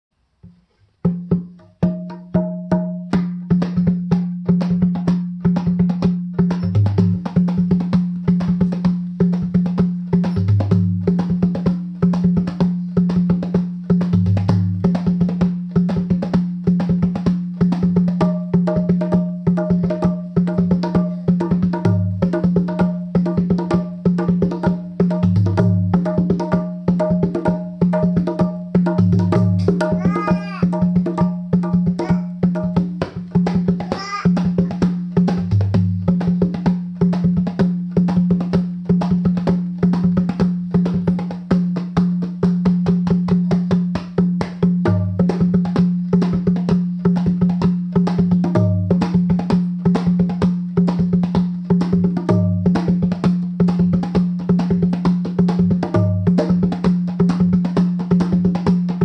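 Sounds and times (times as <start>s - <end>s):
drum solo: 1.0s - 59.0s.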